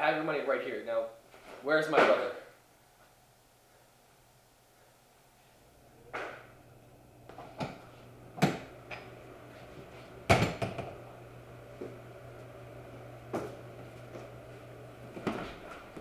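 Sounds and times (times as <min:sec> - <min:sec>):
steady low hum: 0:02.6 - 0:16.0.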